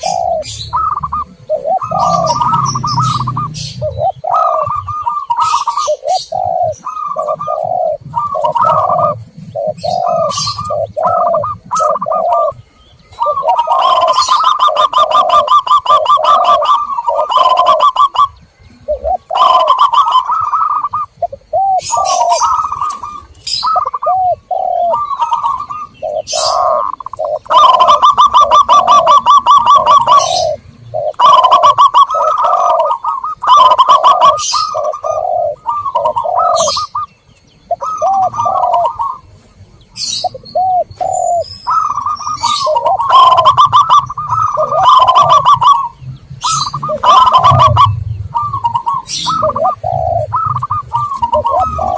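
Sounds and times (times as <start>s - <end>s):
doves cooing: 0.0s - 51.9s
small birds chirping: 0.0s - 51.9s.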